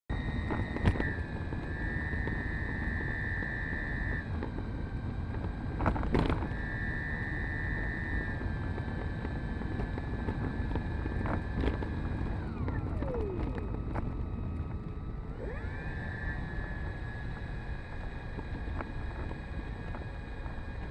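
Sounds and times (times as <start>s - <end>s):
electric motor whining: 0.1s - 20.9s
wind rumbling on microphone: 0.1s - 20.9s.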